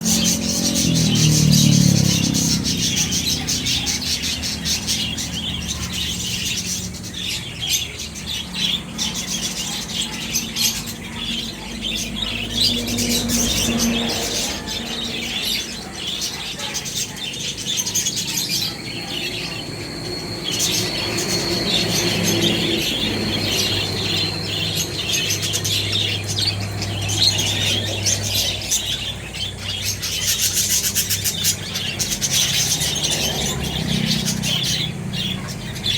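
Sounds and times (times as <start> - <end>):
lovebirds chirping and squawking: 0.0 - 35.9.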